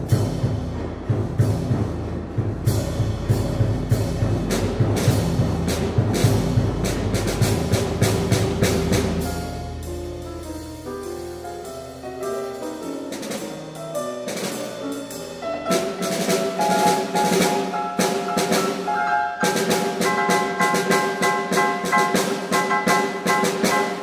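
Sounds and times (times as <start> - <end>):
grand piano notes: 0.0 - 24.0
rhythmic drum strokes: 0.0 - 24.0.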